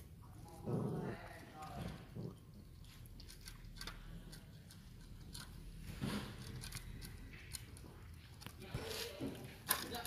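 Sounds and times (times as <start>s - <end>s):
puppies licking plastic cups: 0.0s - 10.0s.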